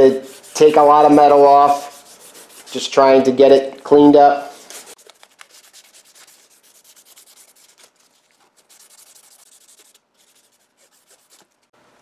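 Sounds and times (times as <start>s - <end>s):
sandpaper rasping on metal: 0.0s - 2.9s, 4.5s - 11.6s.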